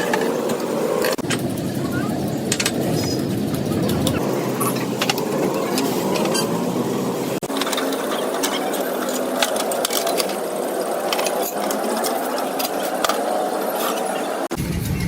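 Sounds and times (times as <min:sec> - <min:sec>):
small machine rattling: 0:00.0 - 0:15.0.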